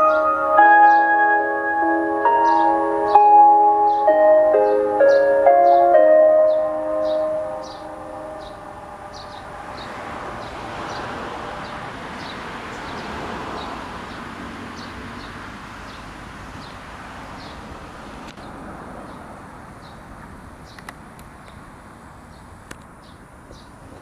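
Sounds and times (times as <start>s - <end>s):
bird chirping: 0.0s - 17.7s, 18.4s - 21.6s
distant noise: 0.0s - 21.0s.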